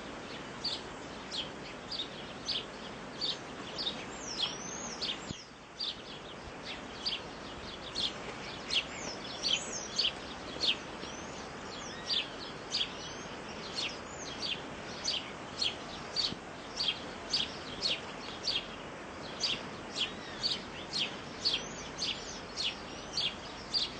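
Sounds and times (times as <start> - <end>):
steady background hiss: 0.0 - 23.9
bird chirping: 0.2 - 23.9.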